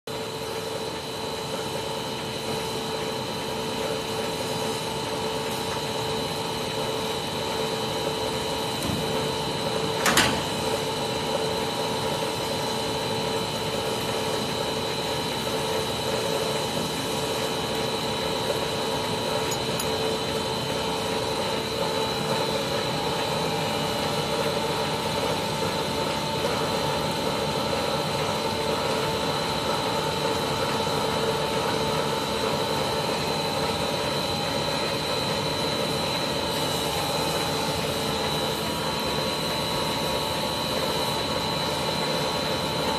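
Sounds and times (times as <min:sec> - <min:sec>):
machine hum with whining tones: 0:00.1 - 0:42.9.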